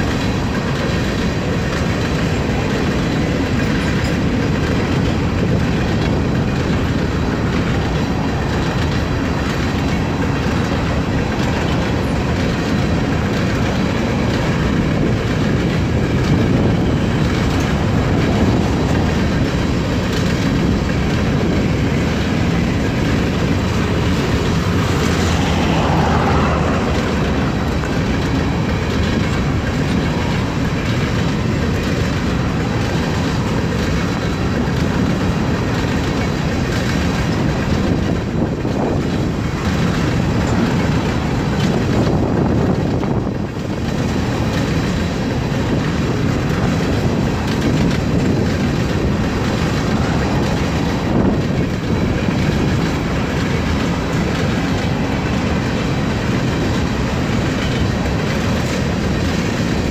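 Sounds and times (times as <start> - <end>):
freight train rumbling past: 0.0 - 59.9
train wheel squeal: 0.0 - 59.9
wheels clacking over rail joints: 0.0 - 59.9.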